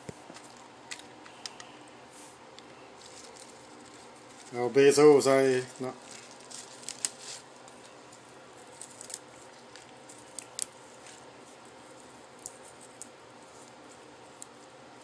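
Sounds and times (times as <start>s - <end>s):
soft clicks and rustles of leaves: 0.0s - 14.8s.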